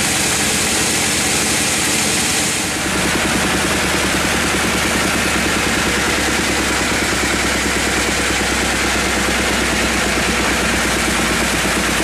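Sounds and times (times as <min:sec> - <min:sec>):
bandsaw machinery rattling chug: 0:00.0 - 0:12.0.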